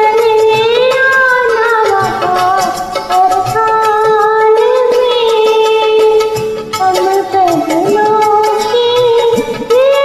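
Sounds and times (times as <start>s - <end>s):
film song with high singing voice: 0.0s - 10.0s.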